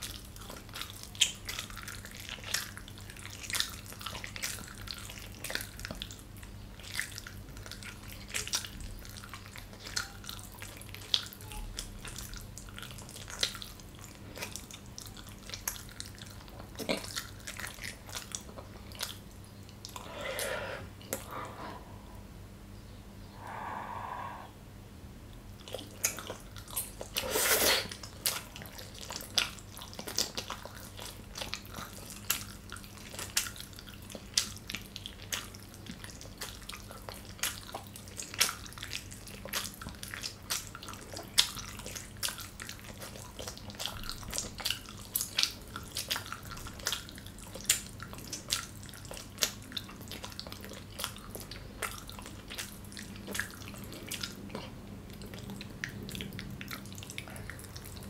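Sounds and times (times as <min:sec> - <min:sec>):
wet mouth chewing smacks: 0:00.0 - 0:20.2, 0:25.6 - 0:58.0.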